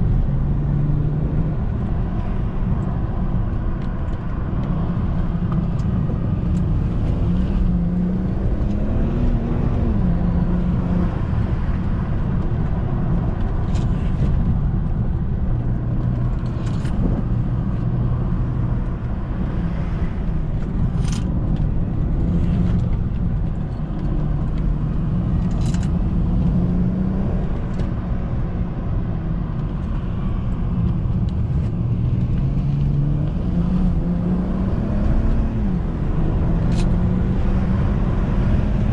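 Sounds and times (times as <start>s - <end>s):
car engine running: 0.0s - 38.9s
tyre and road rumble: 0.0s - 38.9s.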